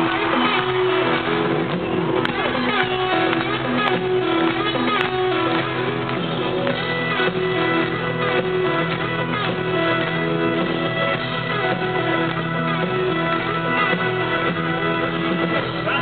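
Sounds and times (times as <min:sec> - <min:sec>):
country band playing: 0:00.0 - 0:16.0.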